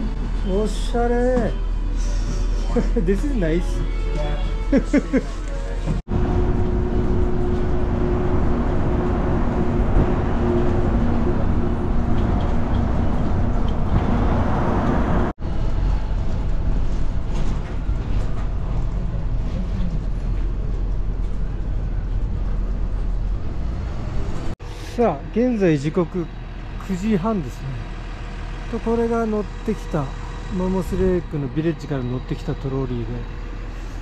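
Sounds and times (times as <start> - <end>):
trolley bus engine and road noise: 0.0 - 34.0.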